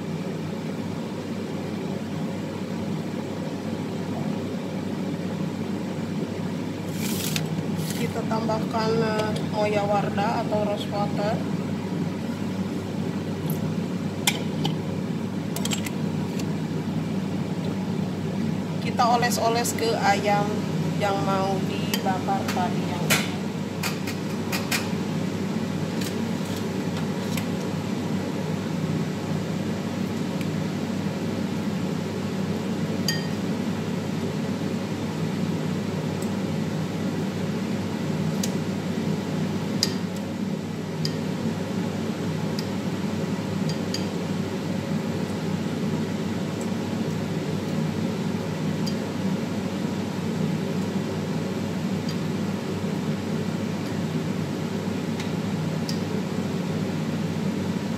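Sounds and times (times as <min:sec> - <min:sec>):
fan hum: 0:00.0 - 0:57.9.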